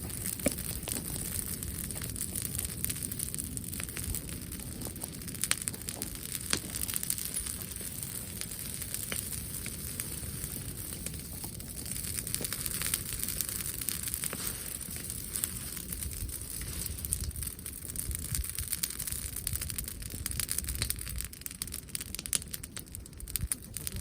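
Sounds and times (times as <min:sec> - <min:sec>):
bonfire crackling and popping: 0:00.0 - 0:24.0.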